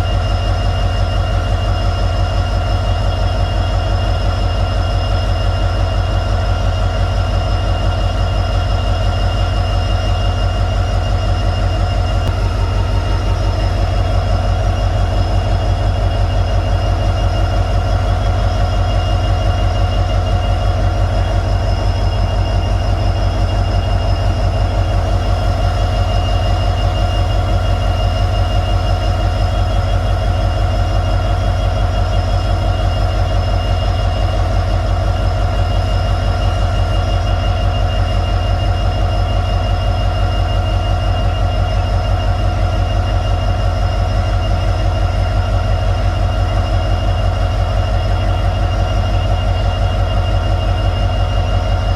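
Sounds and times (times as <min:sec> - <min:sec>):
diesel locomotive engine running: 0:00.0 - 0:51.9.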